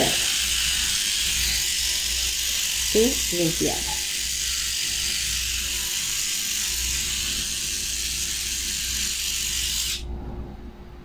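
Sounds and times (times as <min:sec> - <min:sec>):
electric pet trimmer running: 0:00.0 - 0:10.0.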